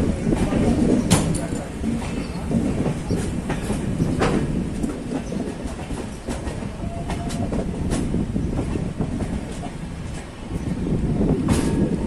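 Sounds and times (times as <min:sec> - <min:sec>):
wheels clacking over rail joints: 0:00.0 - 0:12.0
wheels rumbling on rail: 0:00.0 - 0:12.0.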